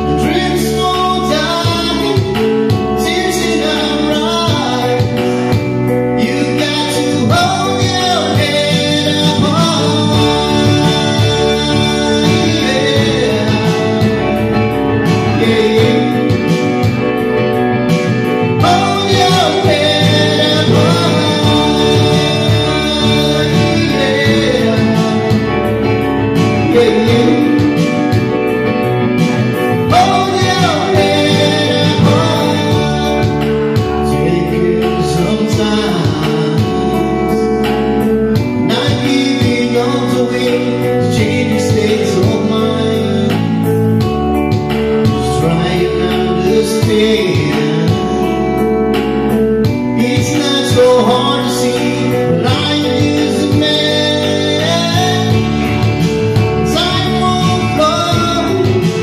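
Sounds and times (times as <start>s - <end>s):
guitar accompaniment: 0.0s - 59.0s
man singing into a microphone: 0.0s - 59.0s.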